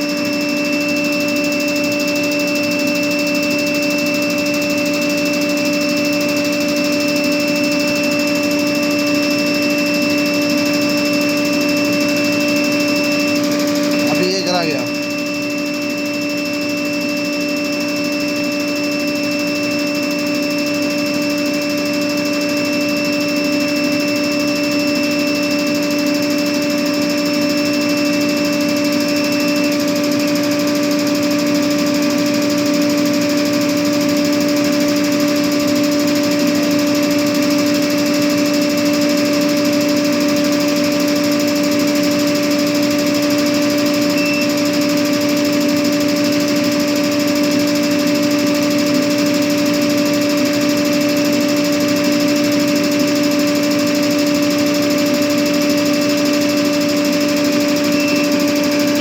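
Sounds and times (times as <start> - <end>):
air compressor humming: 0.0 - 59.0
high-pitched whine: 0.0 - 59.0.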